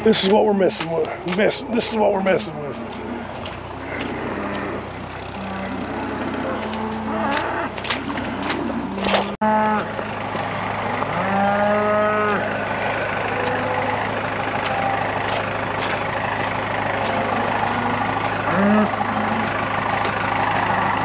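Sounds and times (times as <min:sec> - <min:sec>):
cattle mooing: 0:00.0 - 0:21.0
tractor engine idling: 0:00.0 - 0:21.0.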